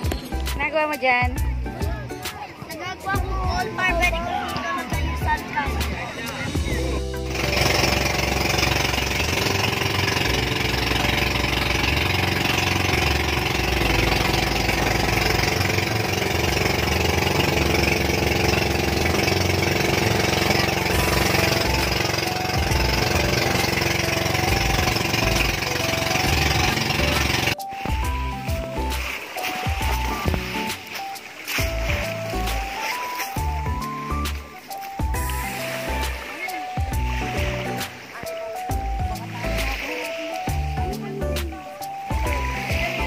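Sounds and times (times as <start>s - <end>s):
wind and water rushing: 1.6s - 43.0s
boat engine droning: 2.8s - 43.0s.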